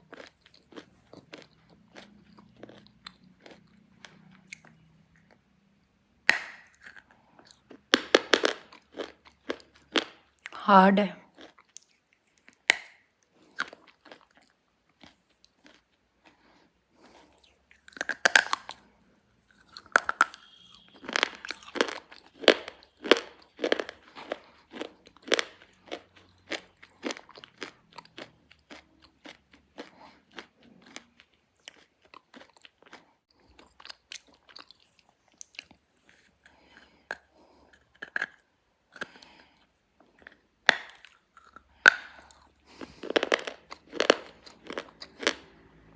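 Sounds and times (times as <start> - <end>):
pencil being chewed crunching: 0.0 - 5.4, 6.3 - 10.6, 11.3 - 45.9.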